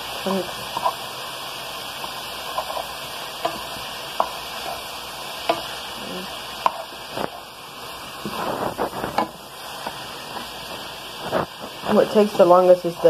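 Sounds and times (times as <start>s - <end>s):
sausage sizzling in a frying pan: 0.0s - 13.0s.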